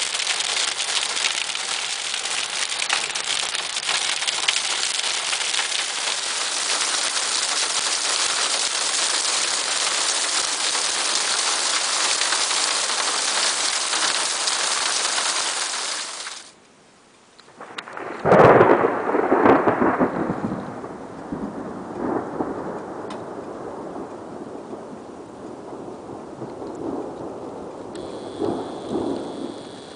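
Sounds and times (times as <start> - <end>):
thunder rumbling: 0.0 - 16.5, 17.5 - 29.9
heavy rain drumming on a car roof: 0.0 - 16.6, 18.2 - 29.9.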